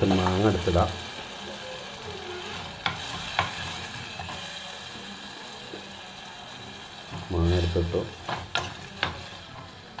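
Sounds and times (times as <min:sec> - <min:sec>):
curry sizzling: 0:00.0 - 0:10.0.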